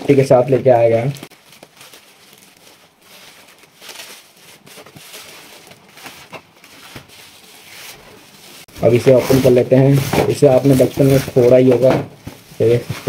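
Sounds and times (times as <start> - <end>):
plastic bag and bubble wrap crinkling: 0.0 - 13.0.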